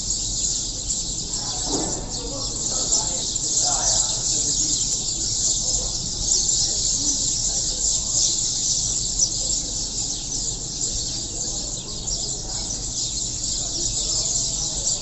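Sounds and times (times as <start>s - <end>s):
flock of sparrows chirping: 0.0s - 15.0s.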